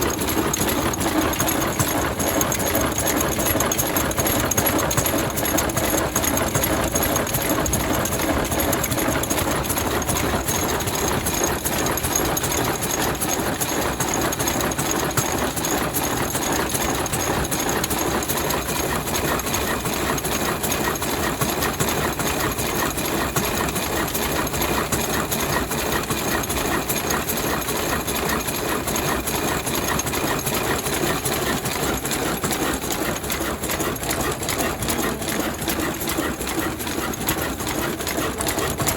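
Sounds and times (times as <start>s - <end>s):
stationary diesel engine running: 0.0s - 38.9s.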